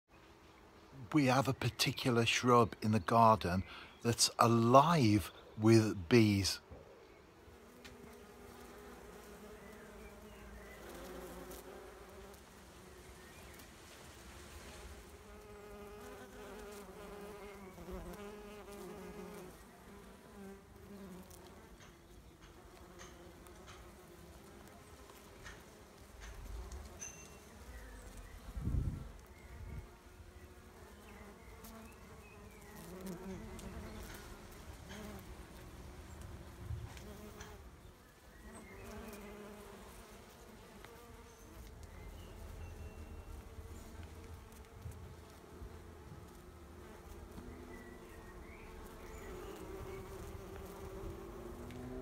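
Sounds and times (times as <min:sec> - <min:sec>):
bumblebees buzzing: 0:01.2 - 0:06.6, 0:07.4 - 0:52.0.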